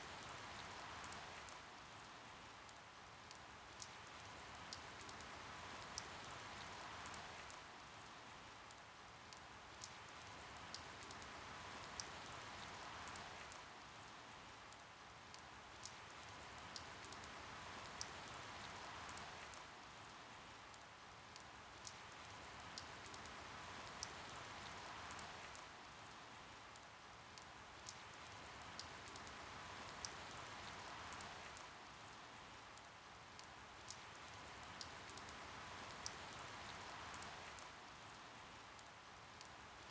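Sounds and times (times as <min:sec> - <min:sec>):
rainfall hiss: 0:00.0 - 0:39.9
water drip ticks: 0:00.2 - 0:39.9.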